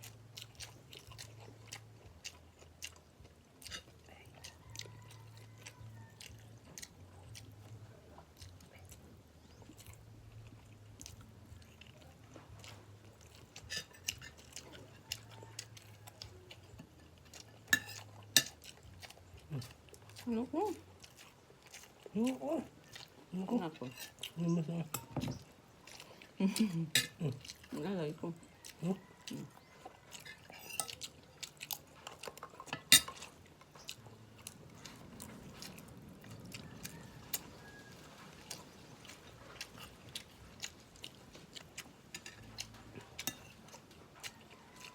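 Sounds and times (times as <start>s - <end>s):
wet mouth chewing sounds: 0.0s - 44.9s.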